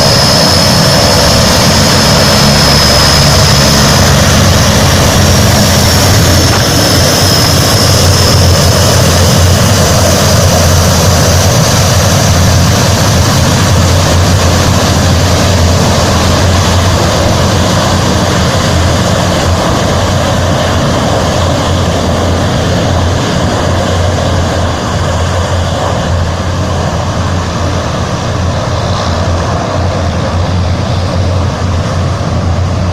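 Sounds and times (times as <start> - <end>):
turboprop engines running: 0.0 - 32.9.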